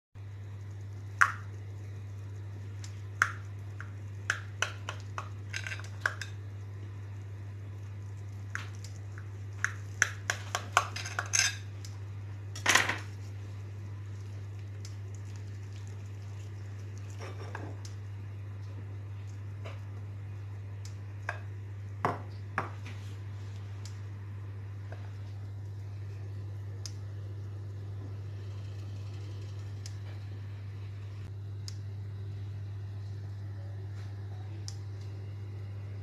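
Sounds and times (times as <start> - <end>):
steady low hum: 0.2 - 36.0.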